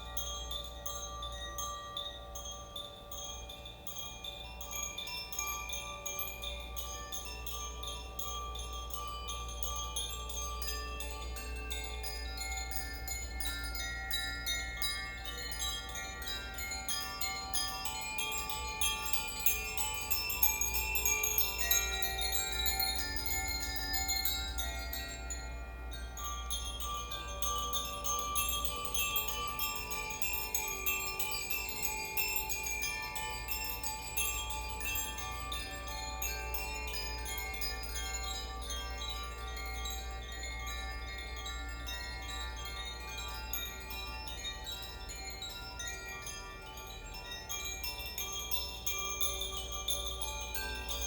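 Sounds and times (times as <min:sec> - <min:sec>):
wind chimes ringing: 0:00.0 - 0:51.0.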